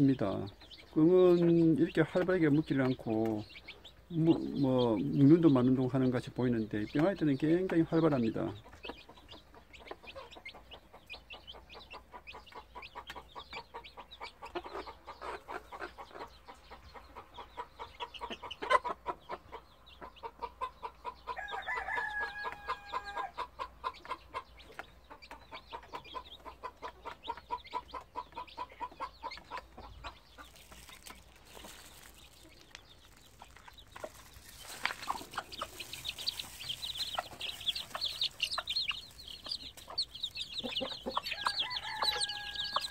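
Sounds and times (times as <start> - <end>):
chicks peeping: 0.0 - 42.9
hen clucking softly: 6.9 - 42.9.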